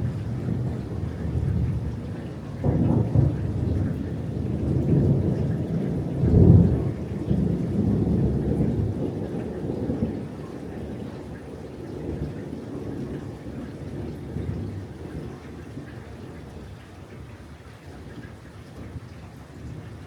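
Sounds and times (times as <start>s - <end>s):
thunder rumbling: 0.0s - 16.3s.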